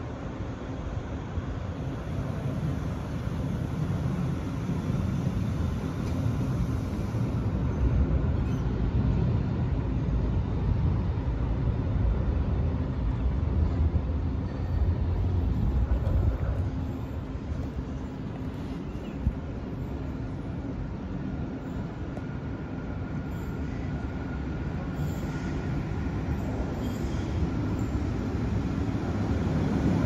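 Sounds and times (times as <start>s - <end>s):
tram rolling past: 0.0s - 30.0s.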